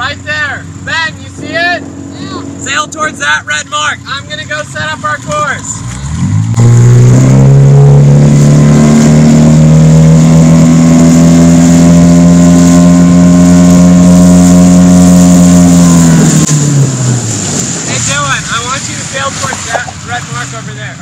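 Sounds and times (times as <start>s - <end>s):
outboard motor revving: 0.0s - 21.0s.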